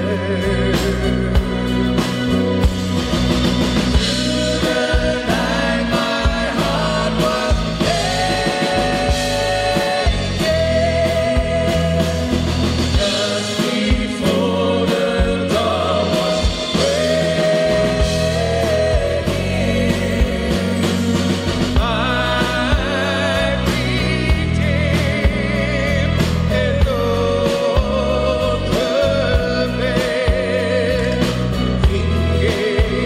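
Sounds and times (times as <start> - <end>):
man singing: 0.0 - 1.6, 3.9 - 33.0
live band playing: 0.0 - 33.0.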